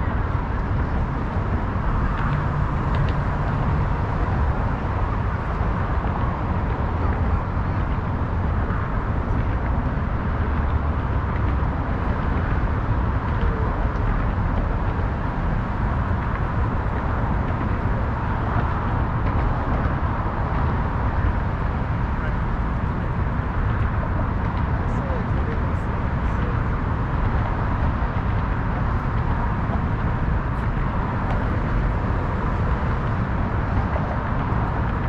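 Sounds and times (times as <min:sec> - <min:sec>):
rumble of road traffic: 0:00.0 - 0:35.0.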